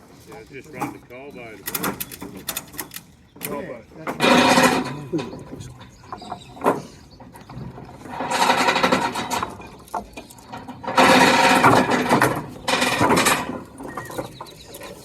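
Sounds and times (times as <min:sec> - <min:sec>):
rapid mechanical rattling: 0:01.6 - 0:15.0.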